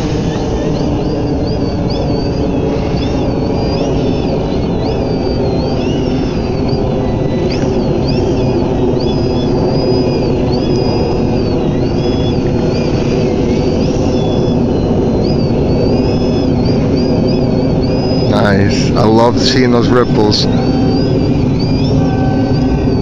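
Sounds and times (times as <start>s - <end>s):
low rushing noise: 0.0s - 23.0s
model plane motor whining: 0.0s - 23.0s.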